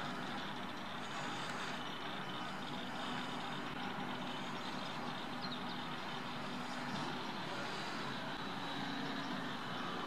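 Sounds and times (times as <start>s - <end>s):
model airplane motor drone: 0.0s - 10.0s.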